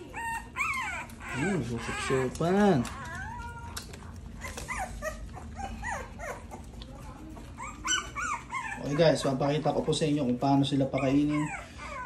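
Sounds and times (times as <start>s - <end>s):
puppies whimpering and squealing: 0.0s - 12.0s.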